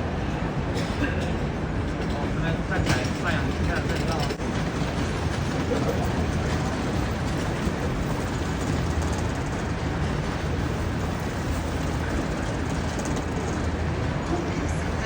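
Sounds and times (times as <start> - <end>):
train rumbling and hissing: 0.0 - 15.0.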